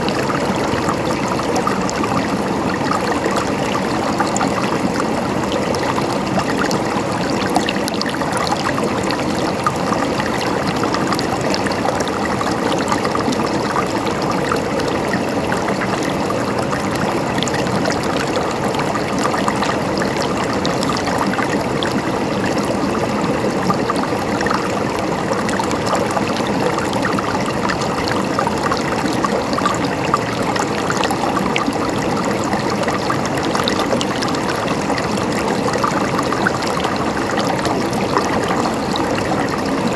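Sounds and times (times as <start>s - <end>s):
water gurgling: 0.0s - 39.9s.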